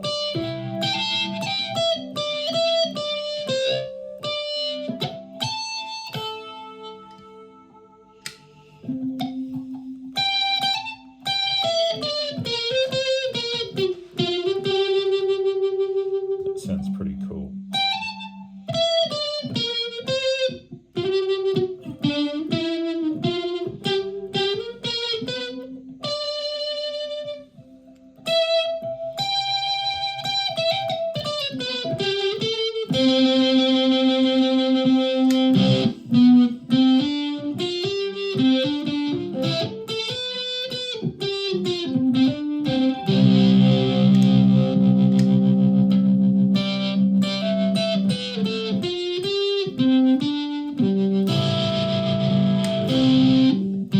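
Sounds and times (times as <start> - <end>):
electric ukulele melody: 0.0 - 53.9.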